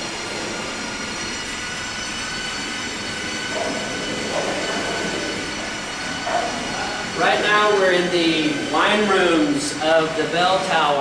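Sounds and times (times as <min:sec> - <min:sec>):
mechanical drone: 0:00.0 - 0:11.0
thin high whines: 0:00.0 - 0:11.0.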